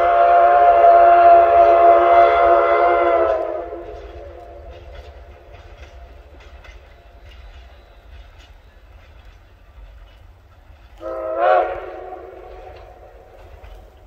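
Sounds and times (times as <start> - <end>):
steam locomotive whistle: 0.0 - 8.8, 11.0 - 13.8
faint train rumble and clicks: 0.0 - 14.0.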